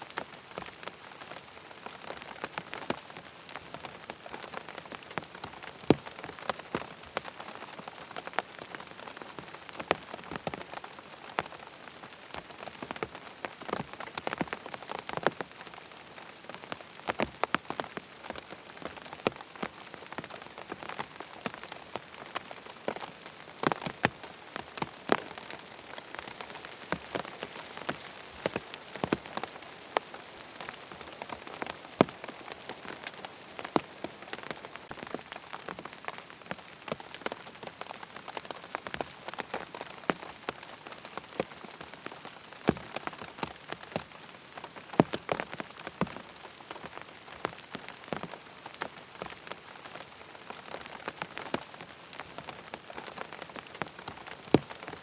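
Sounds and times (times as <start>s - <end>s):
raindrops ticking on a surface: 0.0s - 55.0s
steady rain hiss: 0.0s - 55.0s.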